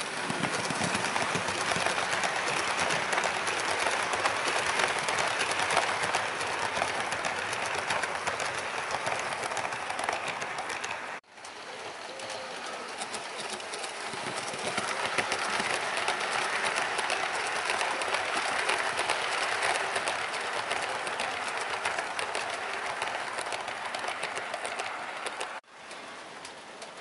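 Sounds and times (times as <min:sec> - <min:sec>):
clicks over rail joints: 0:00.0 - 0:27.0
model train wheels rattling on track: 0:00.0 - 0:27.0.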